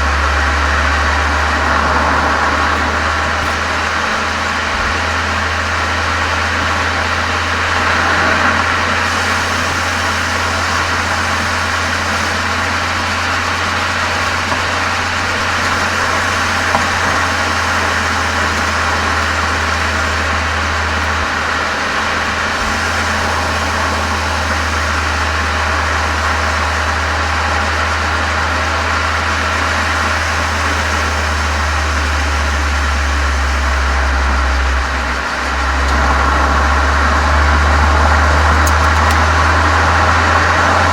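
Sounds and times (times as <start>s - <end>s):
car exhaust droning: 0.0s - 40.9s.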